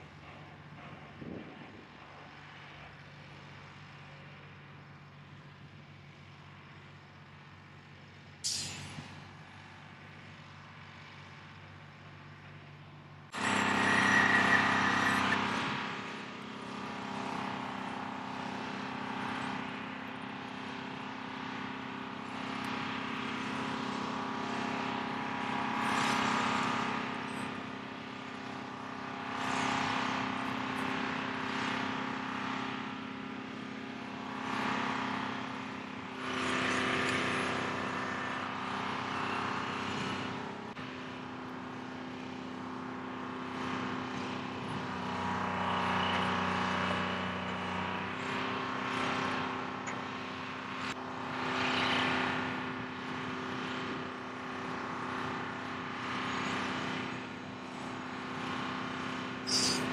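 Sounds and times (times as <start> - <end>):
crane diesel engine running: 0.0 - 59.9.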